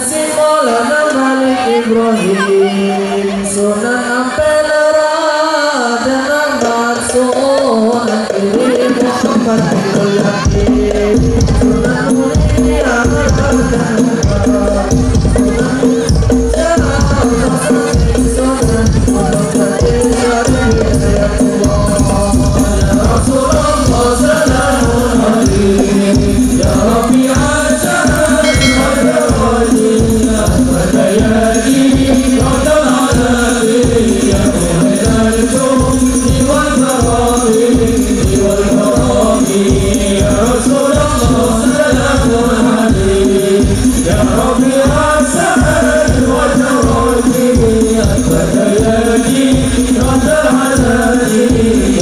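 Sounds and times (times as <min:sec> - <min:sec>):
person singing: 0:00.0 - 0:52.0
frame drums beating: 0:06.7 - 0:52.0.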